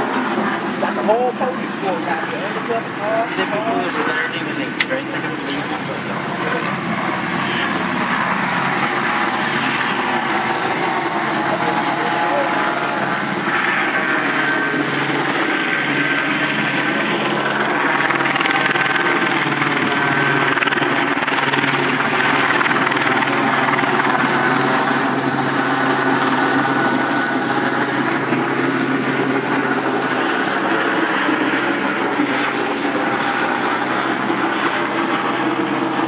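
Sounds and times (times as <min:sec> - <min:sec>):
helicopter rotor drone: 0:00.0 - 0:36.0.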